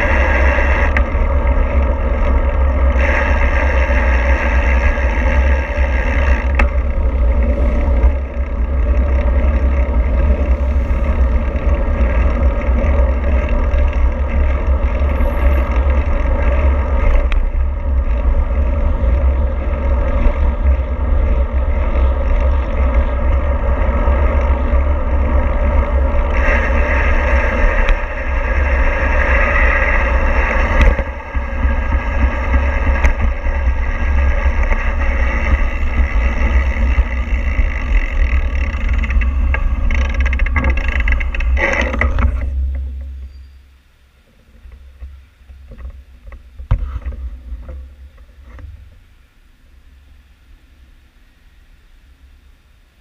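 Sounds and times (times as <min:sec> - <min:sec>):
continuous road hiss: 0:00.0 - 0:53.0
vehicle low rumble: 0:00.0 - 0:53.0.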